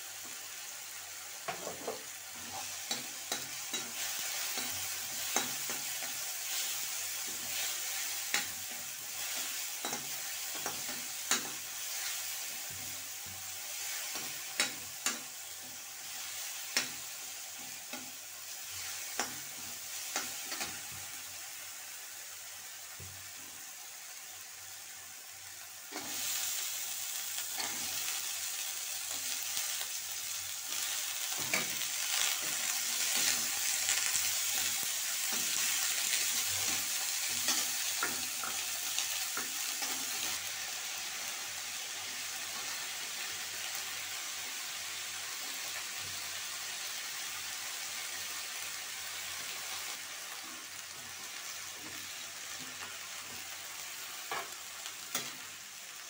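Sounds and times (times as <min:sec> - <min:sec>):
spices sizzling in oil: 0:00.0 - 0:56.0.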